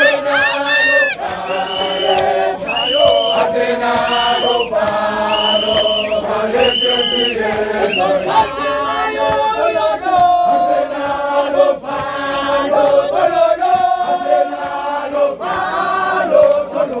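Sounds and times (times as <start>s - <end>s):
crowd singing in chorus: 0.0s - 17.0s.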